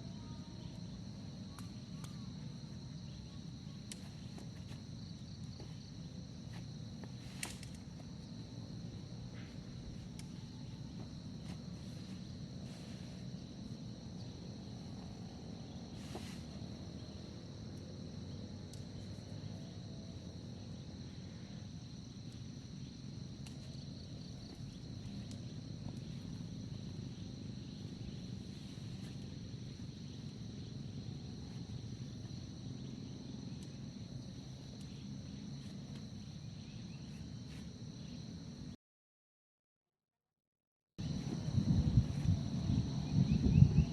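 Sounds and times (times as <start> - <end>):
insects trilling: 0.0 - 38.8, 41.0 - 43.9.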